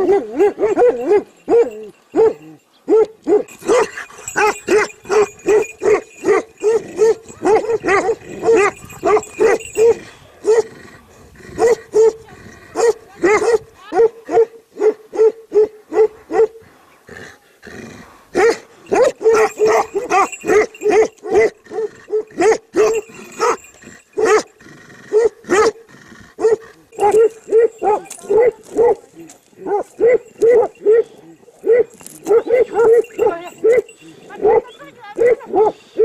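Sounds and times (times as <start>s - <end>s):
dog barking: 0.0s - 10.7s, 11.6s - 12.2s, 12.8s - 16.6s, 18.4s - 24.5s, 25.1s - 25.8s, 26.4s - 36.0s.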